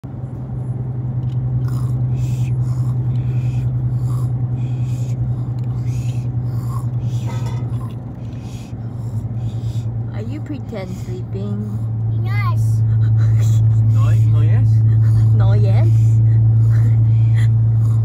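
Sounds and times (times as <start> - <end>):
car driving drone: 0.0 - 18.0.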